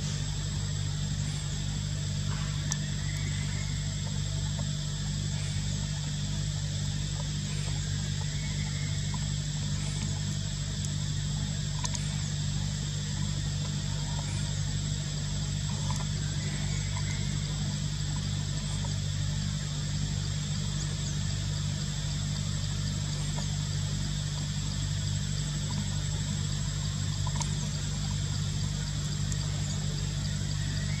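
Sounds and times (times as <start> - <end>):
constant low hum: 0.0 - 31.0.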